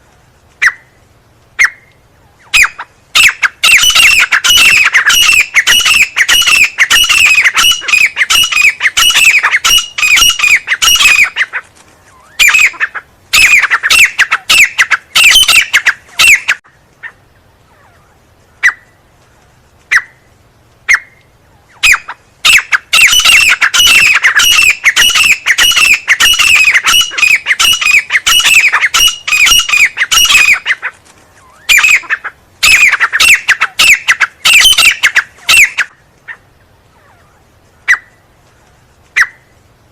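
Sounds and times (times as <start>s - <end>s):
francolin calling: 1.6s - 19.0s, 19.9s - 38.3s.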